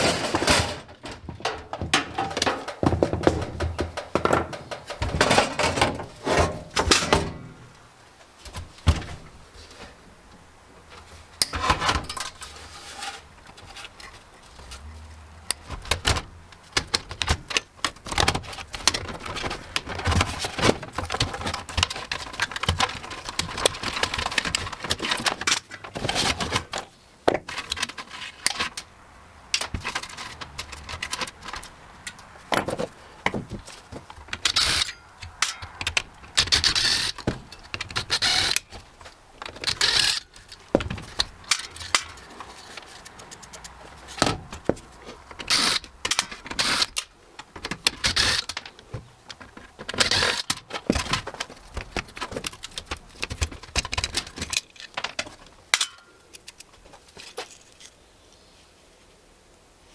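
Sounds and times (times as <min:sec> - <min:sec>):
metal parts clicking and rattling: 0:00.0 - 0:07.8, 0:10.9 - 0:28.9, 0:29.5 - 0:58.0.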